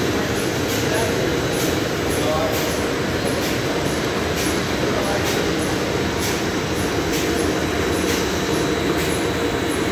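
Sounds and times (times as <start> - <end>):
machine hum and rumble: 0.0 - 9.9.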